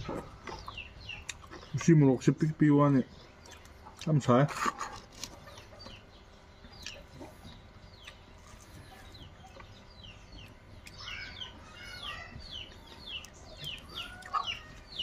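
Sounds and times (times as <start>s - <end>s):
chickens clucking and chirping: 0.0s - 15.0s.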